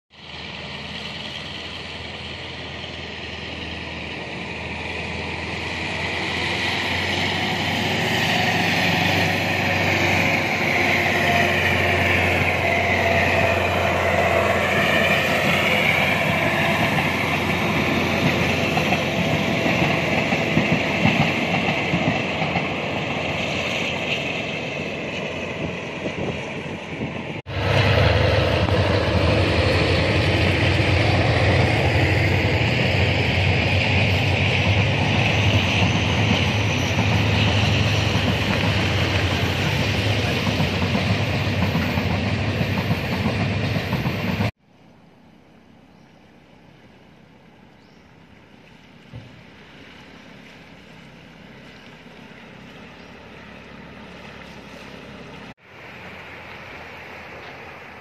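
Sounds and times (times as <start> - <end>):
tank wagons rumbling by: 0.1 - 44.5, 48.4 - 58.0
diesel locomotive passing: 0.1 - 44.6, 45.4 - 58.0.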